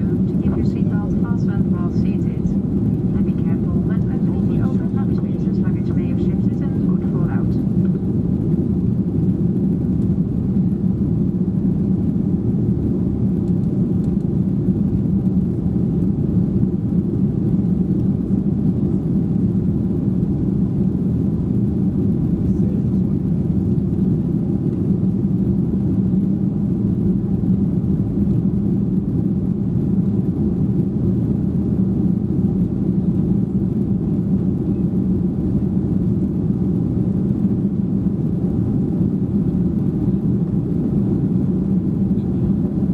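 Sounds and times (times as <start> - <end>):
airplane cabin engine drone: 0.0 - 42.9
faint steady hum: 0.0 - 42.9.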